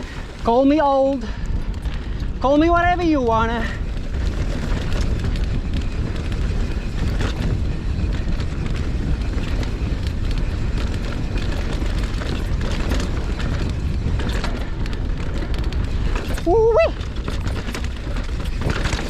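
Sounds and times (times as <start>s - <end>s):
bike rattling over dirt: 0.0s - 19.0s
wind rumble on microphone: 0.0s - 19.0s.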